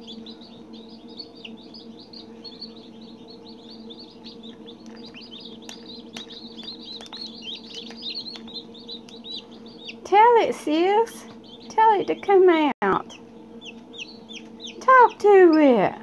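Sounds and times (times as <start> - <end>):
baby chick peeping: 0.0 - 16.0
steady low hum: 0.0 - 16.0.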